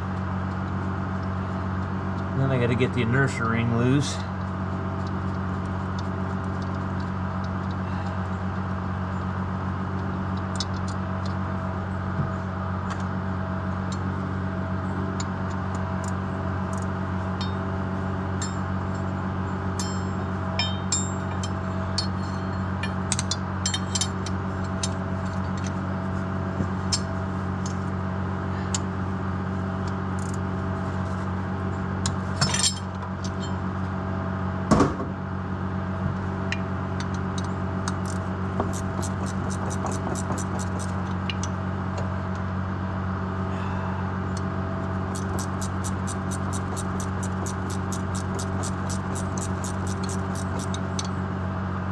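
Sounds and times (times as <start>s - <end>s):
machine hum: 0.0s - 51.9s.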